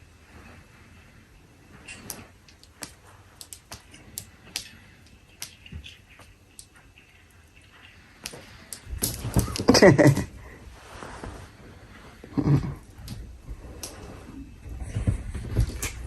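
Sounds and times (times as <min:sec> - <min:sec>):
soft rustle: 0:00.0 - 0:16.0.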